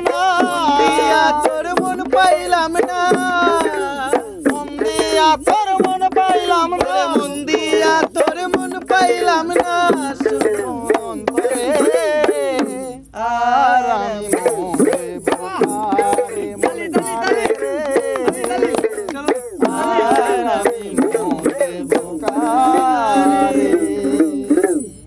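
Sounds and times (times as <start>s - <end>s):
hand drum beats: 0.0s - 13.1s, 13.8s - 25.0s.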